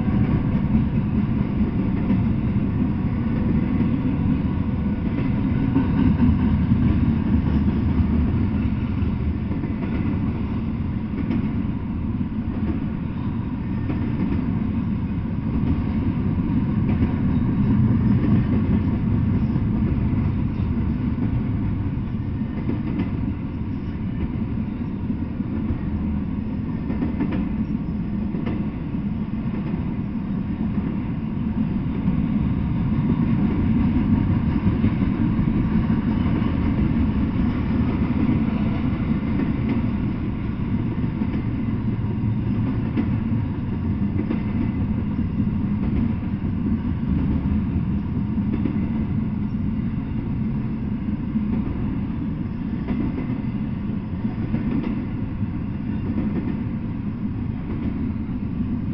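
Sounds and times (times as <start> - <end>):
freight train wheels rumbling: 0.0 - 58.9.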